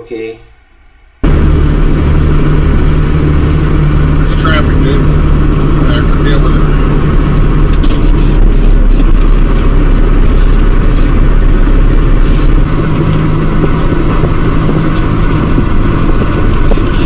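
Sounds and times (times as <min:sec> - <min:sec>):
vehicle engine and road rumble: 0:00.7 - 0:17.0.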